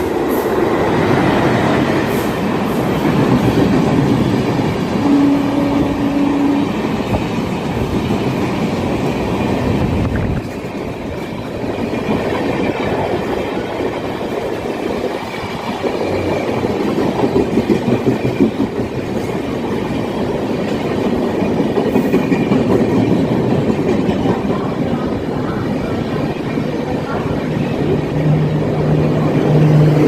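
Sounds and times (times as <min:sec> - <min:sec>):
train rumbling and wheels clattering: 0:00.0 - 0:30.0.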